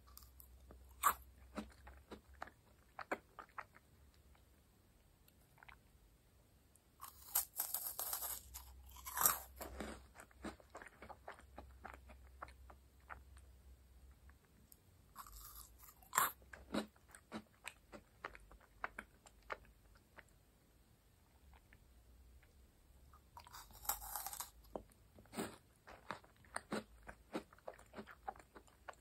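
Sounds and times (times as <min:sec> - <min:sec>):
crunching cookie being chewed: 0:00.0 - 0:04.5, 0:05.3 - 0:05.9, 0:07.0 - 0:20.3, 0:23.2 - 0:29.0.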